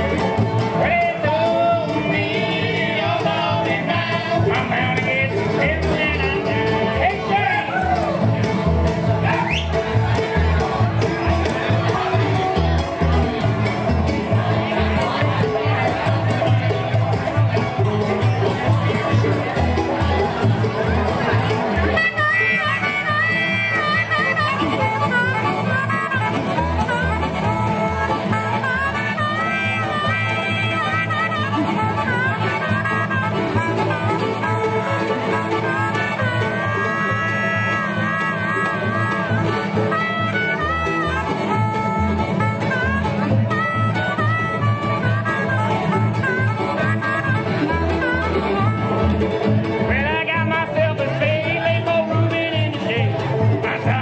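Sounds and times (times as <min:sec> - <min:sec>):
bass notes: 0:00.0 - 0:54.0
live band music: 0:00.0 - 0:54.0.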